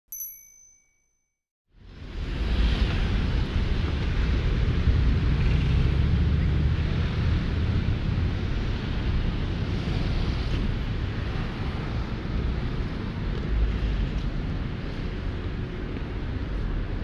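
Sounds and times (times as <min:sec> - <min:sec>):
traffic rumble: 0:01.8 - 0:17.0.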